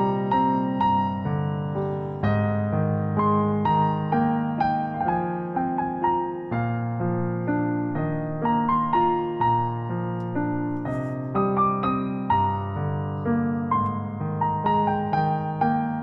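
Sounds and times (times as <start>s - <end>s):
soft electric piano melody: 0.0s - 16.0s.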